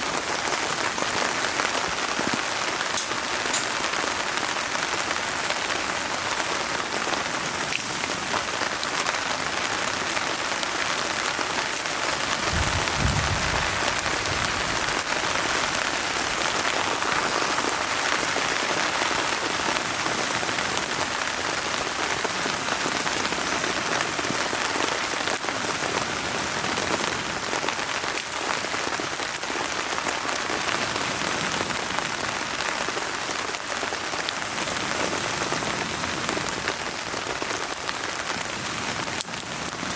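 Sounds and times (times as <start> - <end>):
campfire crackling: 0.0 - 39.9
steady rain falling: 0.0 - 39.9.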